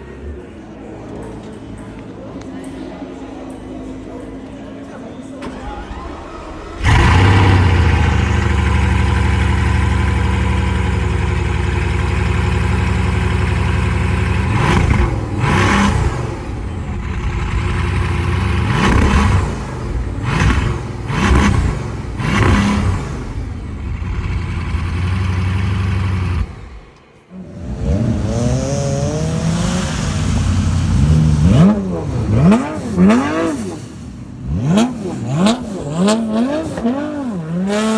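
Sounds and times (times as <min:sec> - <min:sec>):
car engine revving: 0:05.4 - 0:37.9.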